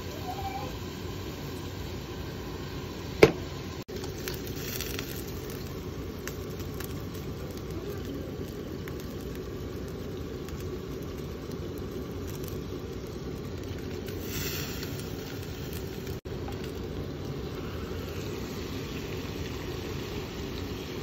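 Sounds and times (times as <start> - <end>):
fat sizzling: 0.0 - 21.0
gas burner flame: 0.0 - 21.0.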